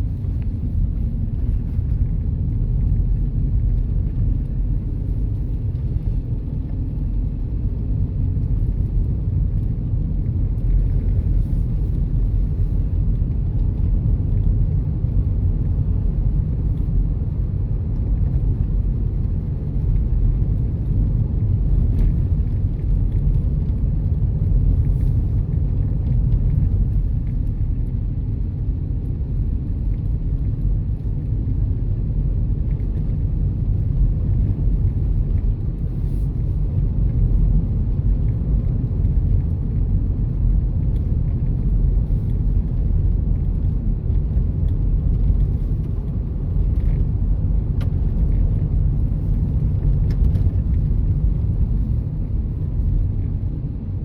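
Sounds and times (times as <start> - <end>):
car engine and tyre noise: 0.0 - 54.0.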